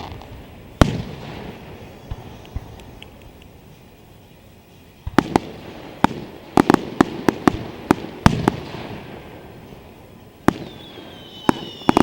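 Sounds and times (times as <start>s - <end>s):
fireworks bangs with crackling tail: 0.0s - 12.0s.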